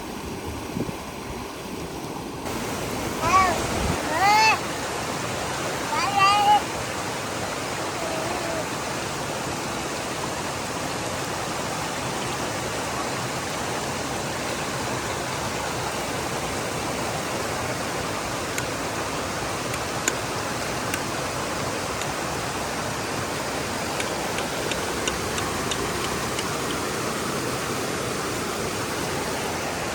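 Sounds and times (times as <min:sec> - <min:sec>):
creek water rushing: 0:00.0 - 0:29.9.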